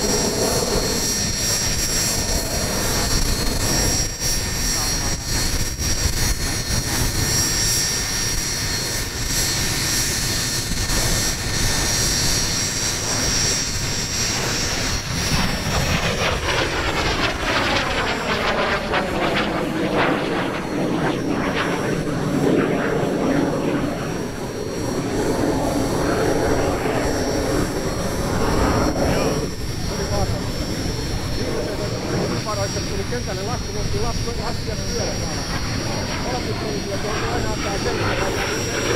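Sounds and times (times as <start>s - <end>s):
jet engines whining overhead: 0.0s - 38.9s.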